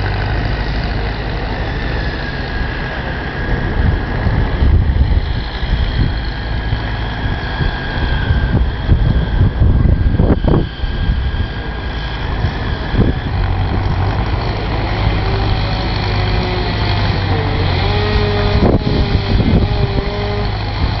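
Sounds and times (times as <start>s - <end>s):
construction machinery engine idling: 0.0s - 21.0s
faint wavering whine: 0.0s - 21.0s.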